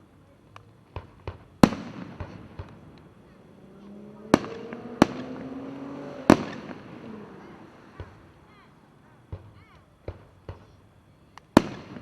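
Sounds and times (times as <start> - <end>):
fireworks bangs and pops: 0.9 - 8.4, 9.2 - 12.0
long flat tones: 1.9 - 11.6.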